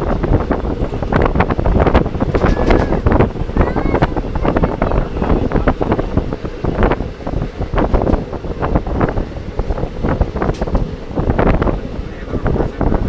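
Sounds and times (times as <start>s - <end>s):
train rumble and rattling: 0.0s - 13.0s
wind buffeting microphone: 0.0s - 13.0s.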